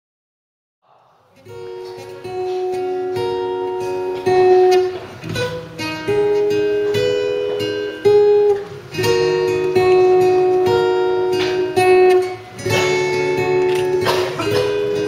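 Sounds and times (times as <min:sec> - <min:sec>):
acoustic guitar strumming and picking: 0:01.3 - 0:15.0.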